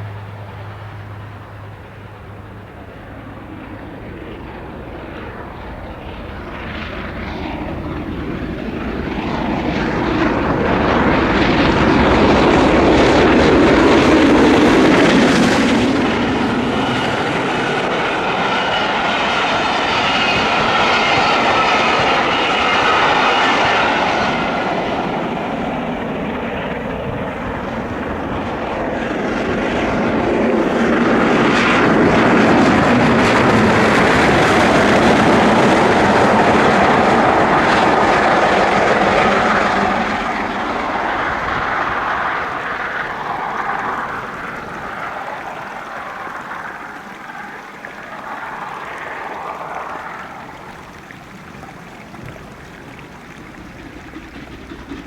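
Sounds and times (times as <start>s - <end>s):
steam locomotive passing: 0.0s - 55.0s.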